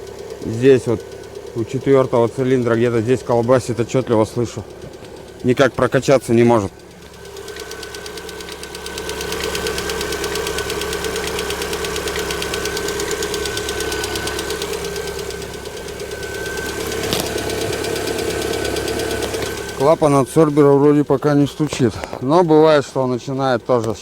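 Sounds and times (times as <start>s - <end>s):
car engine idling: 0.0s - 24.0s
valve lifter ticking: 0.0s - 24.0s.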